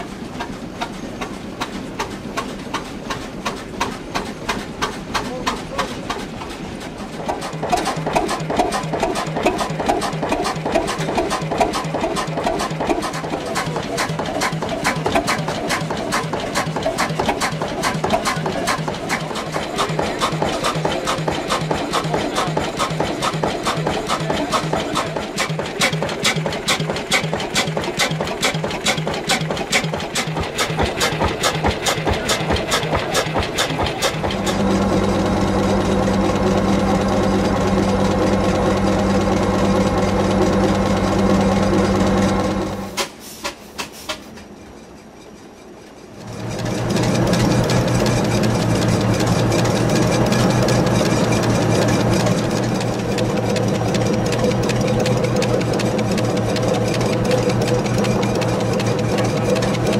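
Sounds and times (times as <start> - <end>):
diesel engine rhythmic knocking: 0.0 - 59.9.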